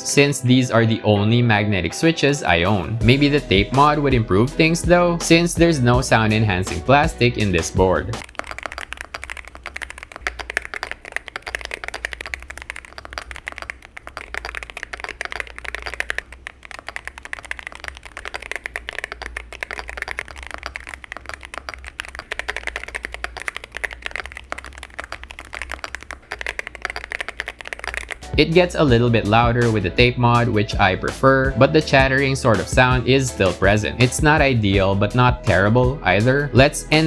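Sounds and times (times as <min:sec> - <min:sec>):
keyboard typing: 0:02.4 - 0:37.0.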